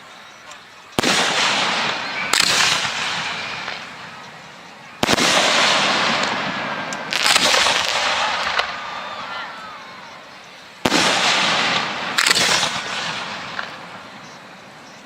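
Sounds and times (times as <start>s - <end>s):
fireworks crackling hiss: 0.0s - 15.0s
fireworks bangs: 0.9s - 15.0s.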